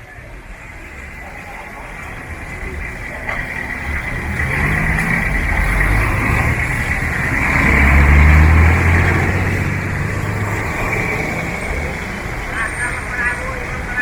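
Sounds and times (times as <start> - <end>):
street noise: 0.0 - 14.0
vehicle engine running close: 0.0 - 14.0.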